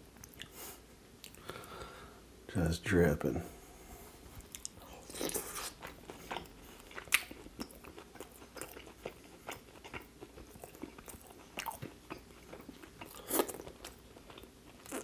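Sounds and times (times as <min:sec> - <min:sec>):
person chewing food: 0:00.1 - 0:01.8, 0:04.4 - 0:15.0.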